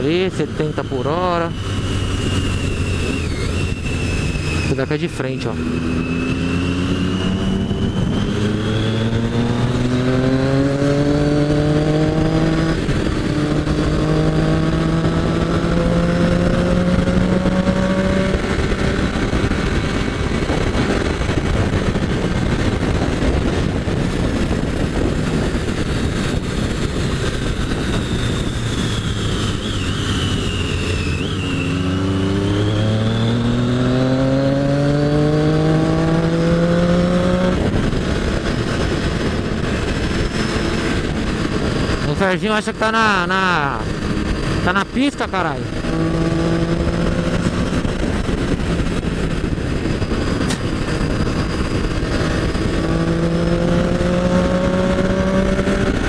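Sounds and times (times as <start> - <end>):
motorcycle engine accelerating: 0.0 - 56.0
wind rush on microphone: 0.0 - 56.0.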